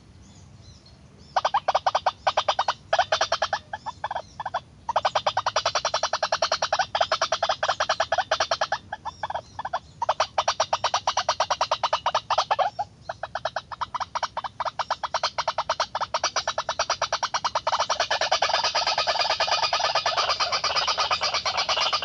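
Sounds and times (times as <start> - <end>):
bird harsh croaking call: 1.2 - 22.0.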